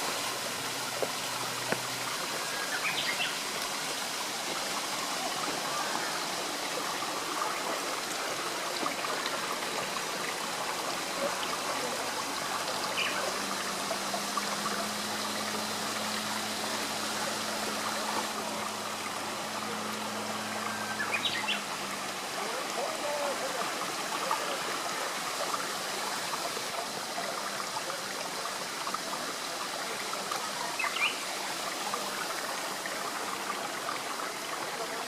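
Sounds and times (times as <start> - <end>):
stream trickling: 0.0 - 35.0.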